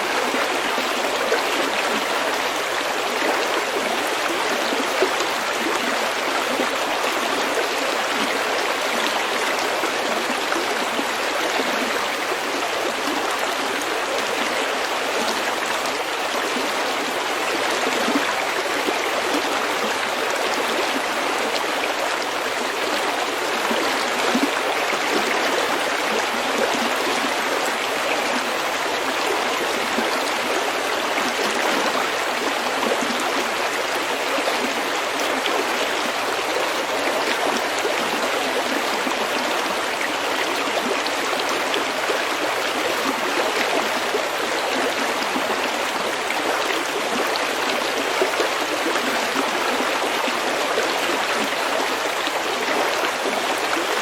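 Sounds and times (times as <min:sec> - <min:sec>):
stream babbling over pebbles: 0:00.0 - 0:54.0.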